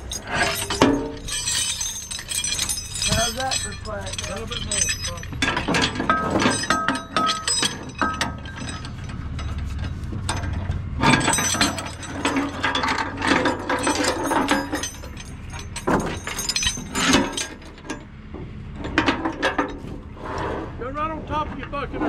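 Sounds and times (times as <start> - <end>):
steel chain rattling: 0.0 - 18.1.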